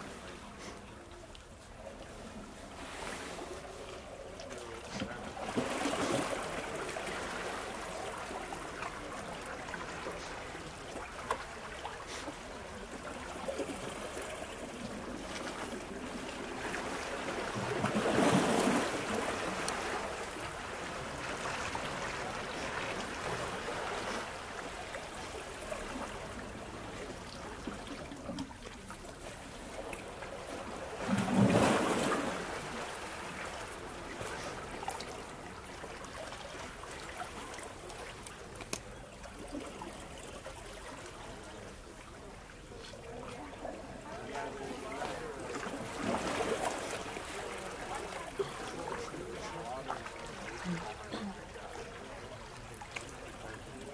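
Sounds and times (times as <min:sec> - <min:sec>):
small waves lapping against rocks: 0:00.0 - 0:53.9.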